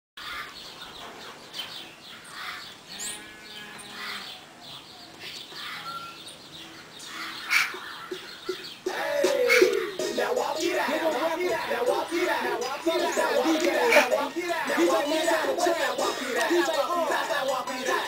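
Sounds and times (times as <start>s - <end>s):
pet bird chirping and calling: 0.2s - 18.0s.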